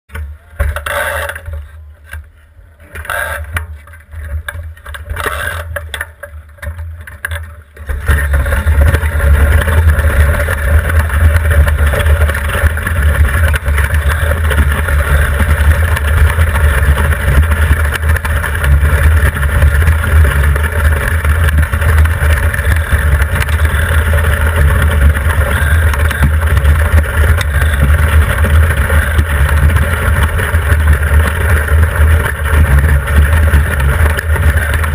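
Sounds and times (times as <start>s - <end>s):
runners rumbling and hissing over ice: 0.1s - 34.9s.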